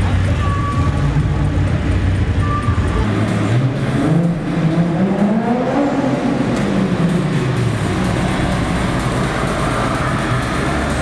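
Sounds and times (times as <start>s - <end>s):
car engine accelerating: 0.0s - 11.0s
heavy low bass: 0.0s - 11.0s.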